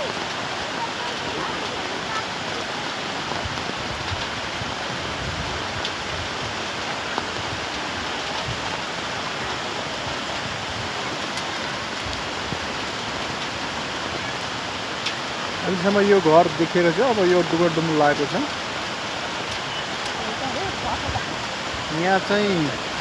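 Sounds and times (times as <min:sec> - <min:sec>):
stream rushing: 0:00.0 - 0:23.0.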